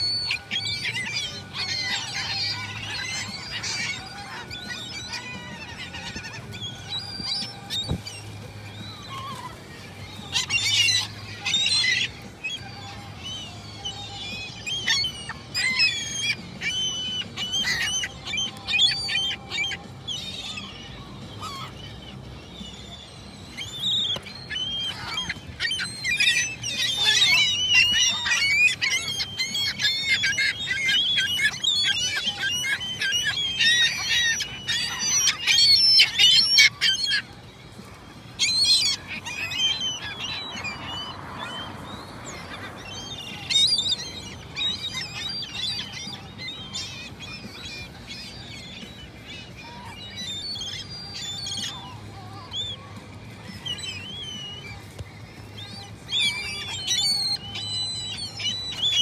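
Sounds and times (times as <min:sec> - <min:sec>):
gulls squawking: 0:00.0 - 0:59.0.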